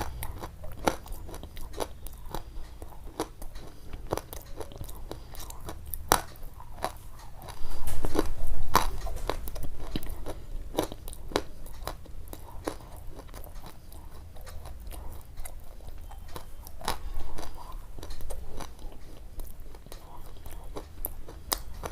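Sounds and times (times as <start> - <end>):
sharp crunches and clicks: 0.0 - 21.9.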